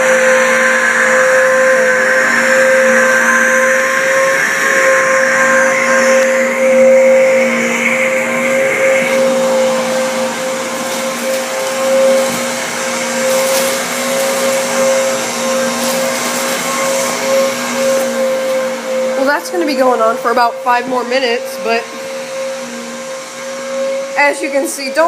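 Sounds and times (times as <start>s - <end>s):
handheld vacuum cleaner running: 0.0s - 25.0s.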